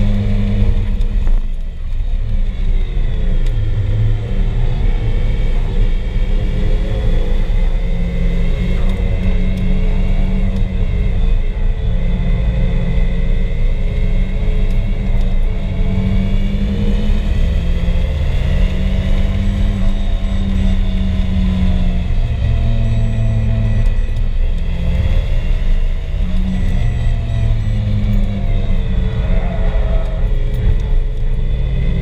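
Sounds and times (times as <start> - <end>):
car engine from inside cabin: 0.0 - 32.0
steady low rumble: 0.0 - 32.0.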